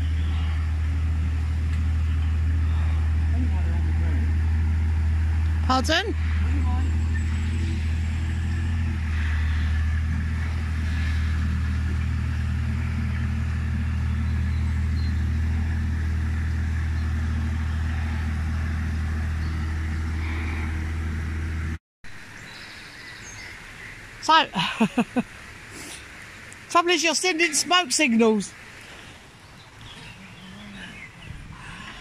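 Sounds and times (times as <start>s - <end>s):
diesel engine droning: 0.0s - 32.0s
outdoor background: 0.0s - 32.0s.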